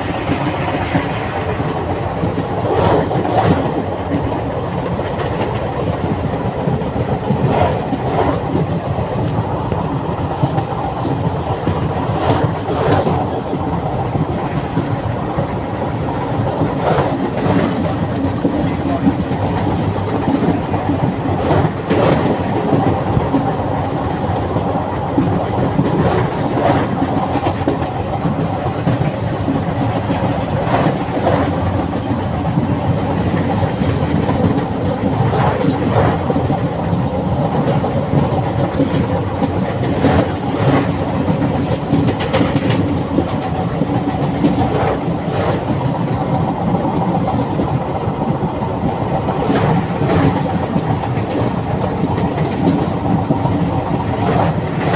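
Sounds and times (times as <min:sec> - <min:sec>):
train wheels rumbling on rail: 0:00.0 - 0:54.9
wheels clacking over rail joints: 0:00.0 - 0:54.9.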